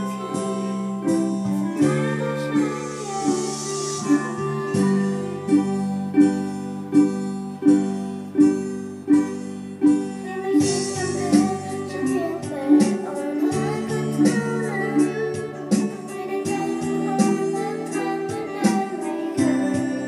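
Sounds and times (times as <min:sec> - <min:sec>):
girl singing: 0:00.0 - 0:07.8, 0:09.8 - 0:20.0
ukulele strumming: 0:00.0 - 0:20.0.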